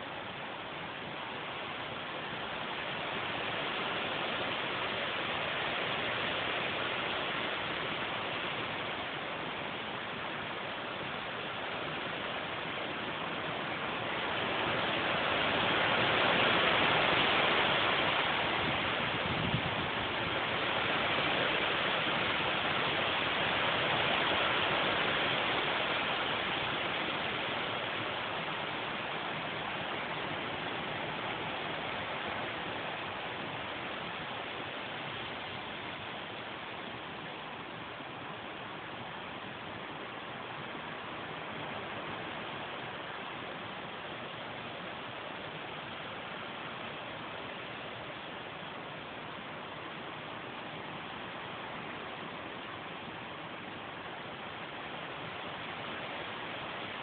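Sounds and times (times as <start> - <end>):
strong wind gusts: 0.0 - 57.0.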